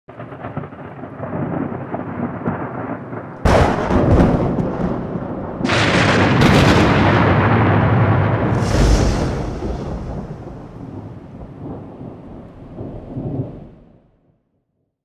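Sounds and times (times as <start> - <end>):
rain: 0.1 - 14.2
thunder crash: 0.4 - 13.7.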